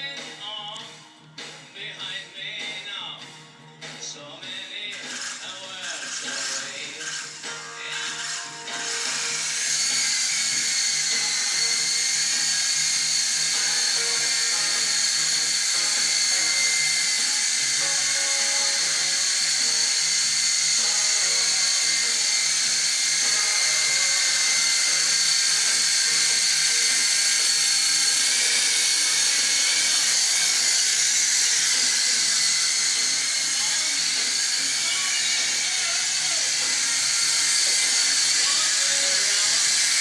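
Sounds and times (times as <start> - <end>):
toy helicopter motor whine: 4.7 - 40.0.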